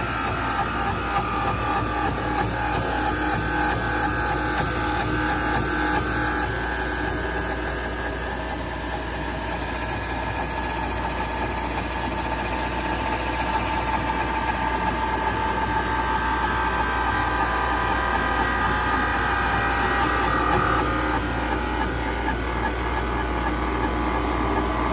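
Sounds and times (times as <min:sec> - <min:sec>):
lathe running: 0:00.0 - 0:24.9.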